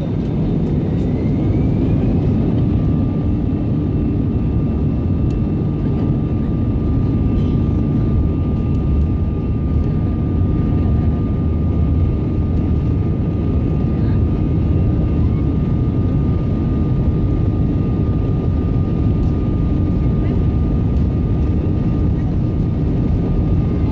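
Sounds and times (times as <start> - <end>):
airplane cabin rumble: 0.0 - 23.9.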